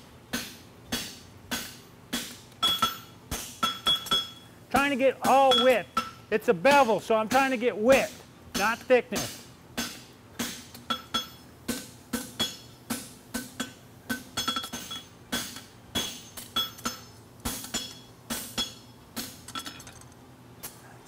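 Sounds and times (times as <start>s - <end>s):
hammer striking steel on anvil: 0.3s - 19.8s.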